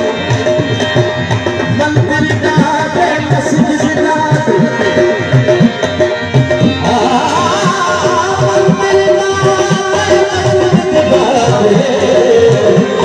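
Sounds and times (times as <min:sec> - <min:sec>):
tabla playing fast pattern: 0:00.0 - 0:13.0.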